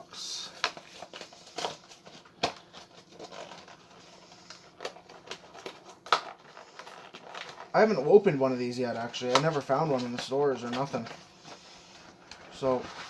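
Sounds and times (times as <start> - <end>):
cardboard and plastic crackling: 0.2 - 13.0.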